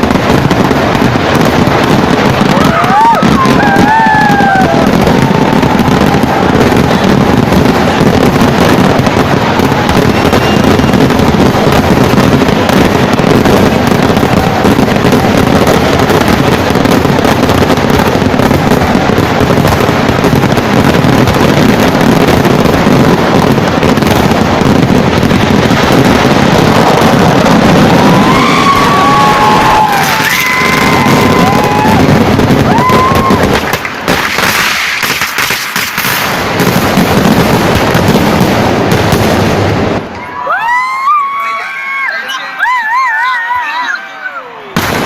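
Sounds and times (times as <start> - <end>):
firecracker explosions: 0.0 - 45.0.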